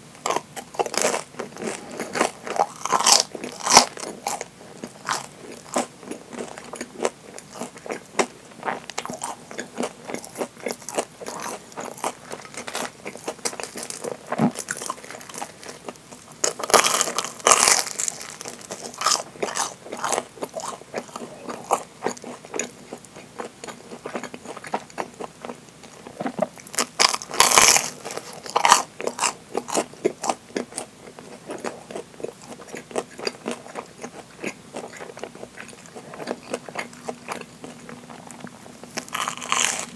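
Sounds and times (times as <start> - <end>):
crunchy bread chewing: 0.2 - 39.9.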